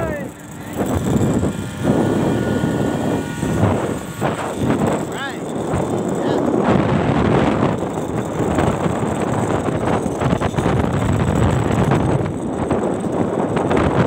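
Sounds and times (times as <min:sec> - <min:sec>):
low rumble of travel: 0:00.0 - 0:14.0
wind on microphone: 0:00.0 - 0:14.0.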